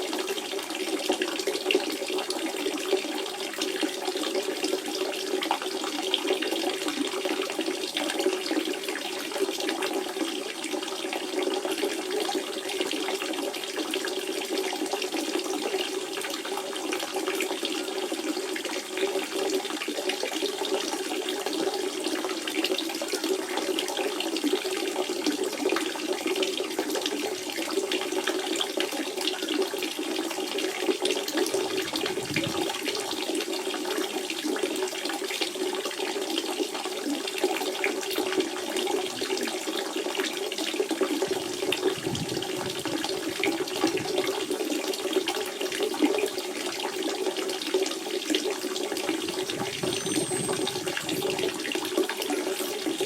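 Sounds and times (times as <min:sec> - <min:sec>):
spring water running and gurgling: 0:00.0 - 0:53.0.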